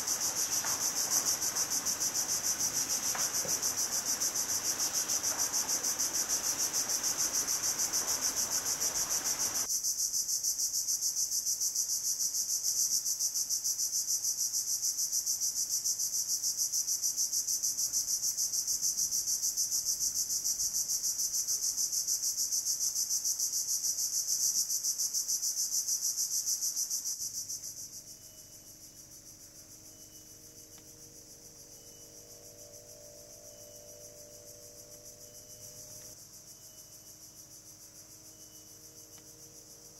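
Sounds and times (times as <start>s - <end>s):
insects pulsing trill: 0.0s - 39.9s.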